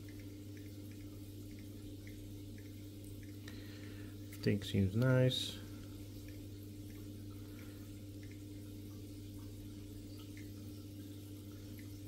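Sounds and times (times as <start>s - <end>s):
aquarium equipment humming: 0.0s - 12.0s
water dripping ticks: 0.0s - 12.0s.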